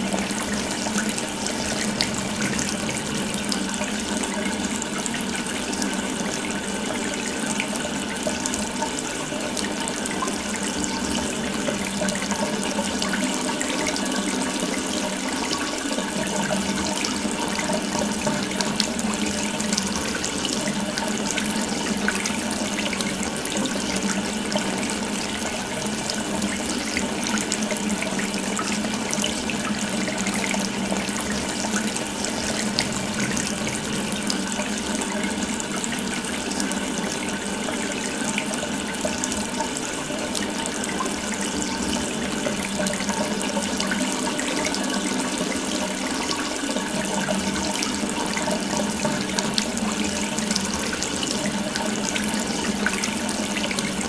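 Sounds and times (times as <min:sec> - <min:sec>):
tap water running into sink: 0:00.0 - 0:54.0.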